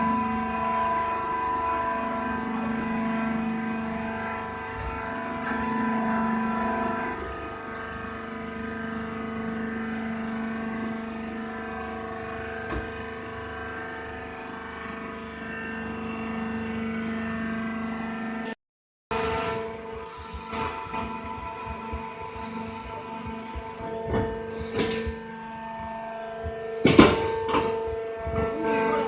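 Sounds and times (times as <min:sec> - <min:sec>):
hydraulic press motor and pump hum: 0:00.0 - 0:29.0.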